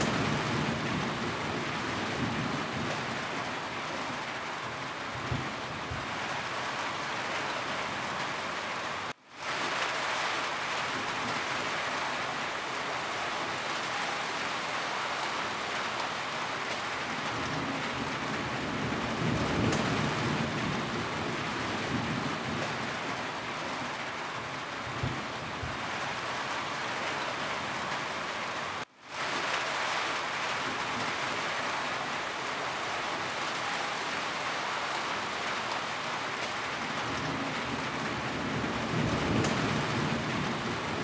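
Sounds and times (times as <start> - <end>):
rain pattering on a roof: 0.0 - 41.0.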